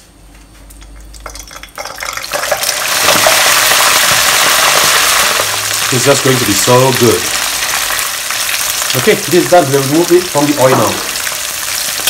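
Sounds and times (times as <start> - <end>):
ribs sizzling in hot oil: 1.8 - 12.0.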